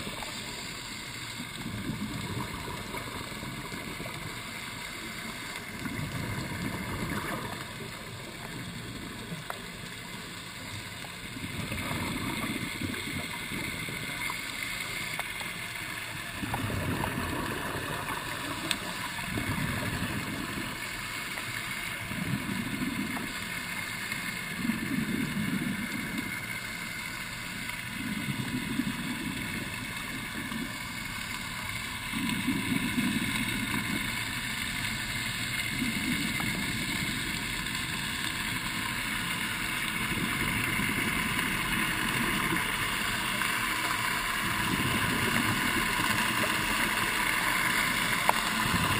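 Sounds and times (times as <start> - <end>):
exhaled bubbles rumbling underwater: 0.0 - 48.9.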